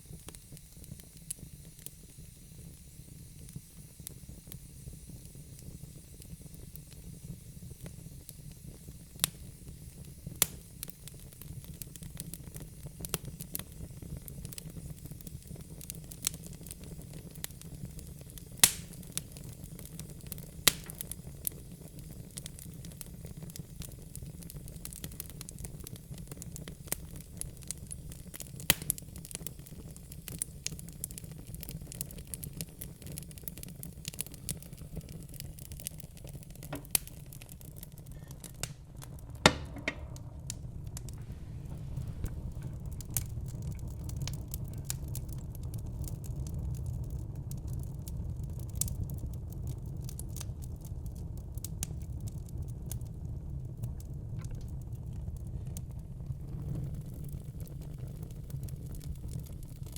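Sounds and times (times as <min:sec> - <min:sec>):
fire rumbling and hissing: 0:00.0 - 0:59.9
logs crackling and popping: 0:07.8 - 0:59.9.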